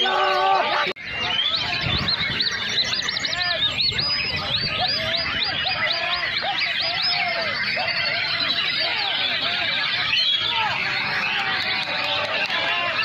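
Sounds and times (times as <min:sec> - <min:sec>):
songbirds chirping and whistling: 0:00.0 - 0:13.0.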